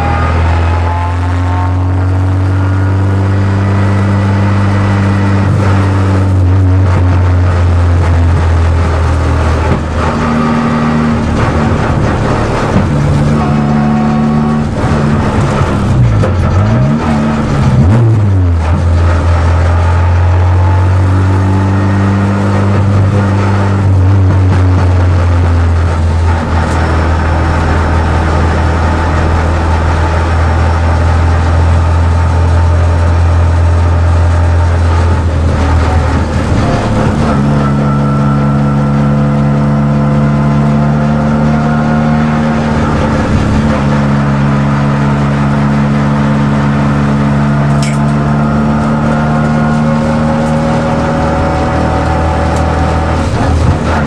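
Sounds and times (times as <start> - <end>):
race car engine from cockpit: 0.0 - 54.0.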